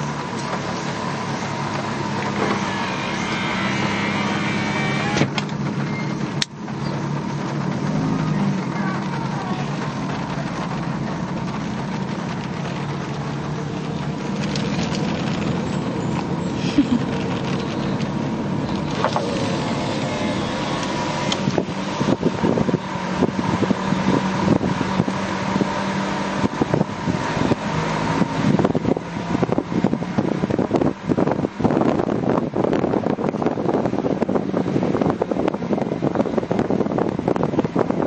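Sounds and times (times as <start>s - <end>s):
car engine and road noise: 0.0s - 38.0s
wind buffeting microphone: 6.6s - 38.0s.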